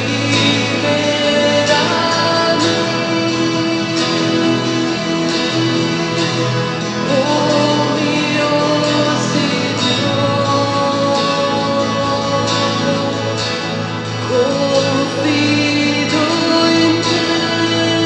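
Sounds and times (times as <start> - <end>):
hymn singing: 0.0 - 18.0.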